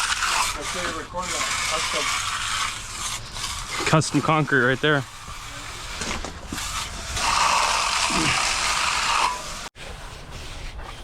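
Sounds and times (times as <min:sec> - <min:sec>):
steel tool scraping concrete: 0:00.0 - 0:11.0.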